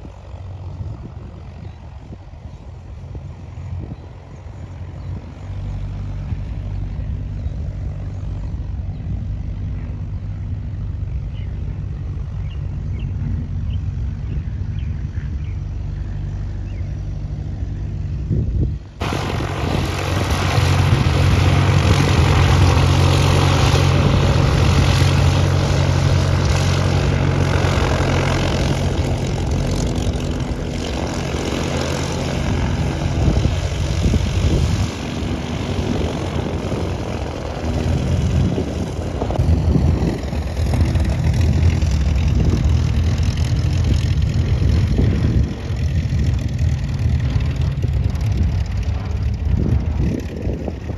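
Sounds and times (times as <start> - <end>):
propeller airplane engine drone: 0.0 - 50.9.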